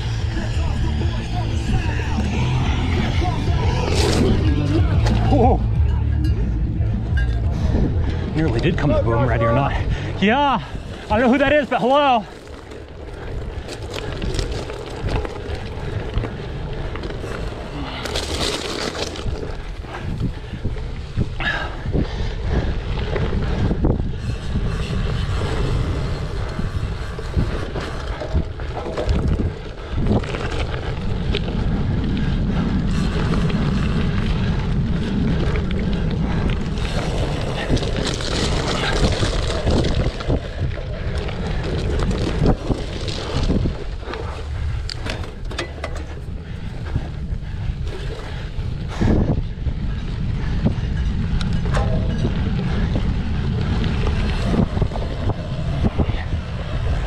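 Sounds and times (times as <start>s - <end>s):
bike knocking and rattling: 0.0s - 57.0s
wind buffeting microphone: 0.0s - 57.0s.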